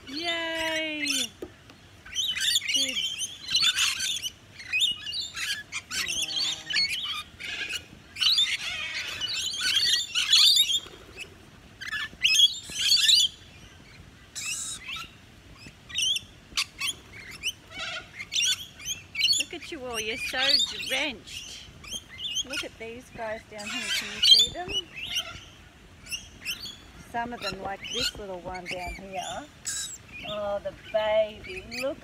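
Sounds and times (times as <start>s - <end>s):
lorikeets chattering and screeching: 0.0s - 32.0s.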